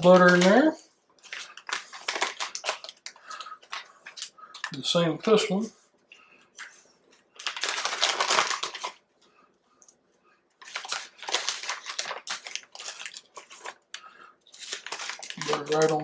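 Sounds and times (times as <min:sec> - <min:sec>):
plastic bag crinkling: 0:00.0 - 0:05.6, 0:06.5 - 0:09.1, 0:10.6 - 0:16.0.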